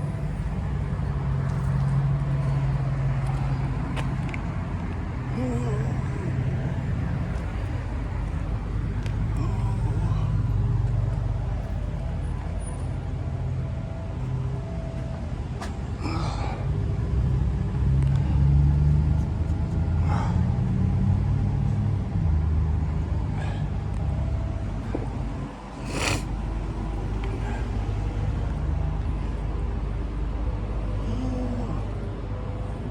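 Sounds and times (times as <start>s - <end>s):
low rumble of road traffic: 0.0s - 32.9s.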